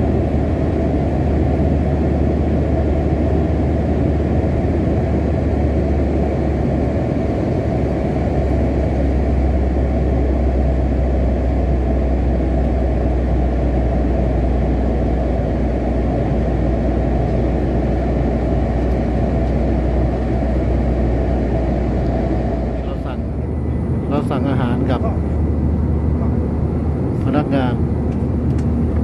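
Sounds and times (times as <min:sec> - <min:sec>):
jet cabin drone: 0:00.0 - 0:29.0.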